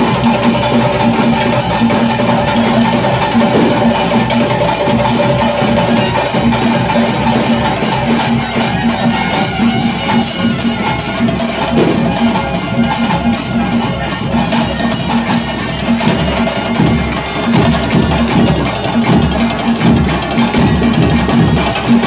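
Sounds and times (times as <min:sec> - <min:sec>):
drums playing steady beat: 0:00.0 - 0:22.0.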